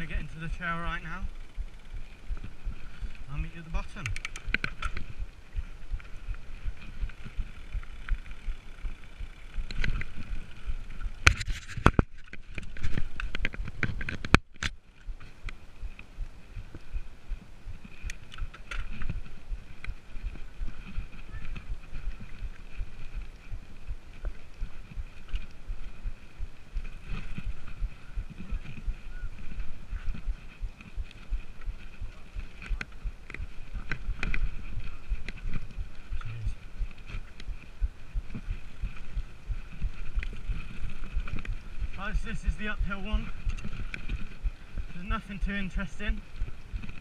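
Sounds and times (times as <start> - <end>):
bike tyres rolling on gravel: 0.0 - 47.0.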